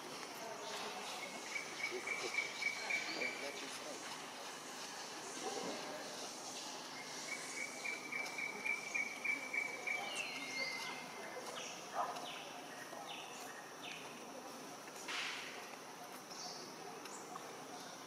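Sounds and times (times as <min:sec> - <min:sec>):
insects trilling: 0:00.2 - 0:18.0.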